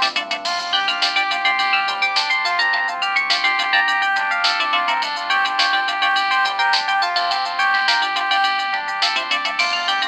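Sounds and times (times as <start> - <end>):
polyphonic phone ringtone: 0.0 - 10.0.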